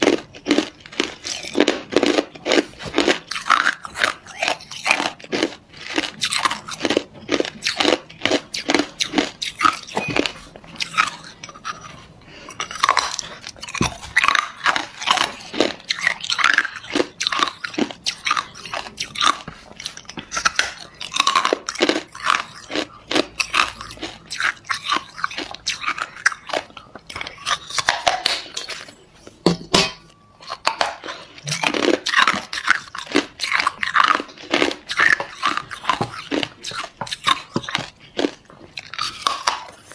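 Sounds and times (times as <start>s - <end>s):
person crunching ice: 0.0s - 11.8s, 12.6s - 28.9s, 31.3s - 39.9s.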